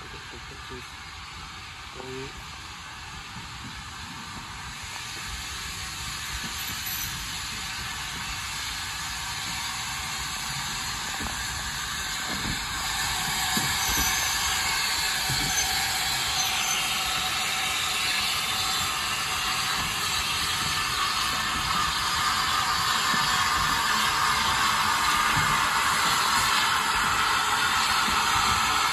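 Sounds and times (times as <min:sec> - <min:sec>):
steam locomotive hissing: 0:00.0 - 0:28.9.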